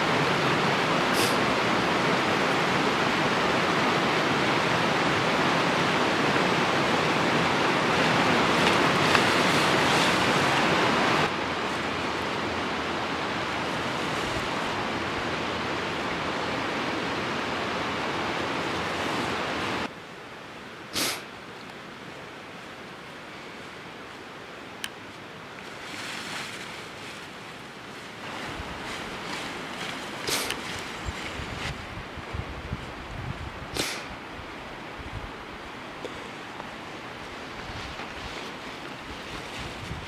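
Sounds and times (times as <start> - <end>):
steady rushing noise: 0.0 - 20.0, 22.0 - 40.0.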